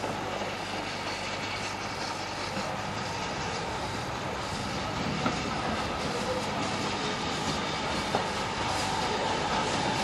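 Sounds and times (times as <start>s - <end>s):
steam train running: 0.0s - 10.0s.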